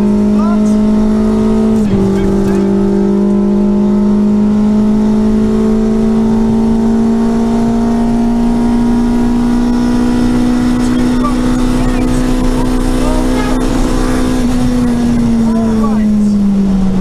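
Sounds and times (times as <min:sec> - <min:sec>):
car engine accelerating: 0:00.0 - 0:17.0
road and tyre noise: 0:00.0 - 0:17.0.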